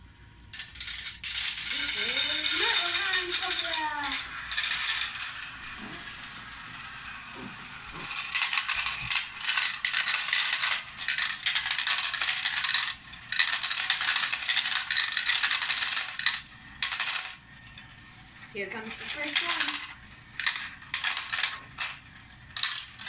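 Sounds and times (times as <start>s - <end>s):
marbles rattling through a marble run: 0.4s - 23.0s.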